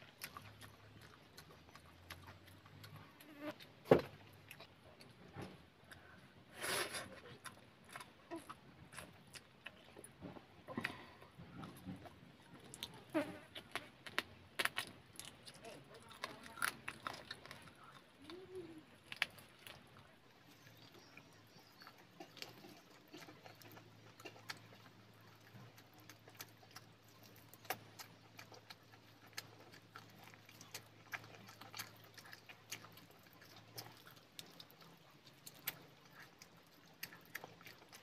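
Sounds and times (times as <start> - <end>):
chewing and mouth clicks: 0.0 - 38.0.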